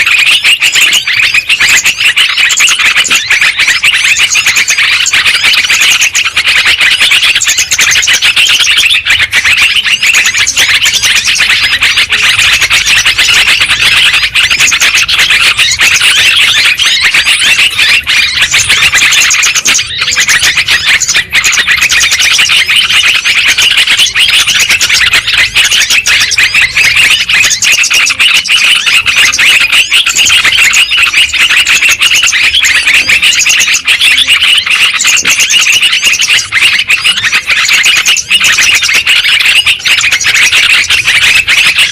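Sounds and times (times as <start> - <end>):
bulbuls chirping chorus: 0.0 - 41.9.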